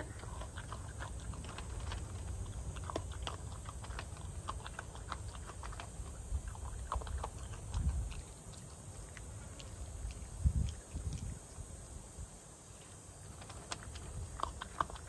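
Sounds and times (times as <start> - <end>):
animal crunching dry kibble: 0.0 - 11.7, 12.8 - 15.0
steady low rumble: 0.0 - 12.4.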